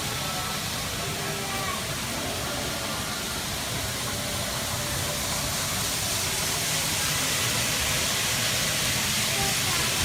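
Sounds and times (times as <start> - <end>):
model train running: 0.0 - 10.0
shop background noise: 0.0 - 10.0.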